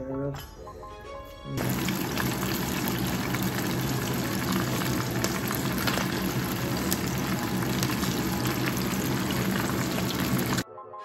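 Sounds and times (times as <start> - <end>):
oil sizzling with fish frying: 1.6 - 10.6.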